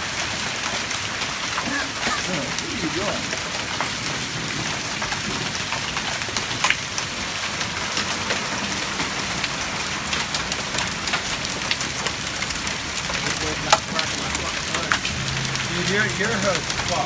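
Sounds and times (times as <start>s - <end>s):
hailstones impacting: 0.0s - 17.0s
rain hissing: 0.0s - 17.0s.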